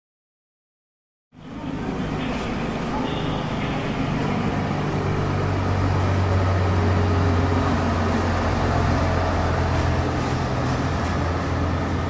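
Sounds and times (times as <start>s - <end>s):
train engine droning: 1.4s - 12.0s.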